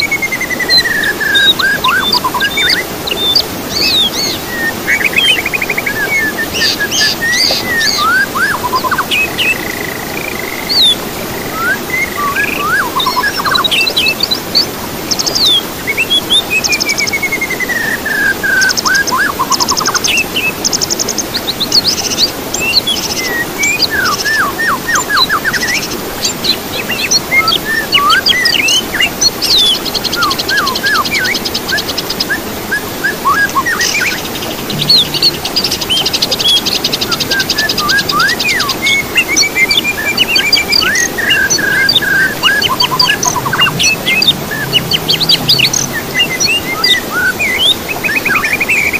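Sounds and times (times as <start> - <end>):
songbirds singing: 0.0 - 48.9.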